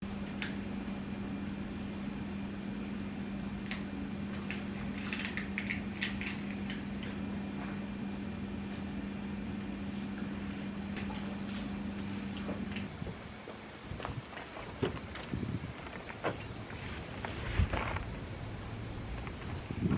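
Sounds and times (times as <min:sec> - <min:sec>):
low mechanical hum: 0:00.0 - 0:19.9.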